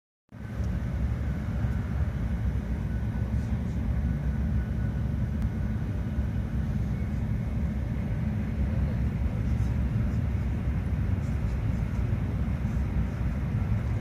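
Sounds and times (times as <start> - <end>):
train low rumble: 0.3 - 14.0
faint high whine: 0.4 - 14.0.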